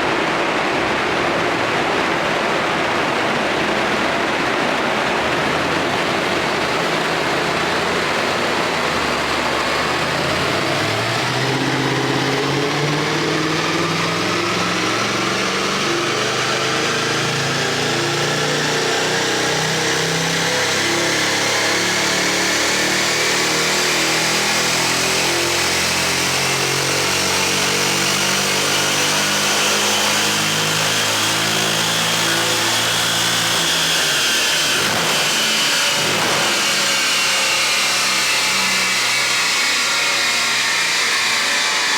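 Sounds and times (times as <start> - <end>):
car engine under load: 0.0 - 41.9.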